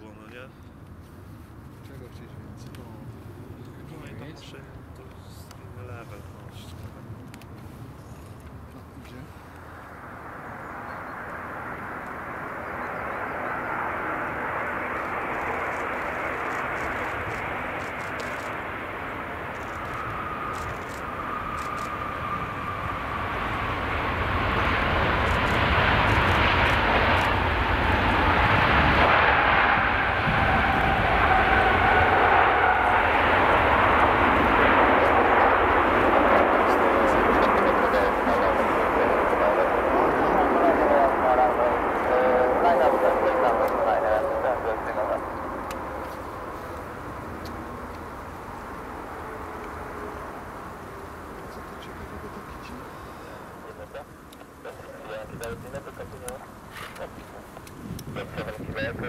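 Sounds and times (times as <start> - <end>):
jet engine rumble and whine: 0.0 - 59.0.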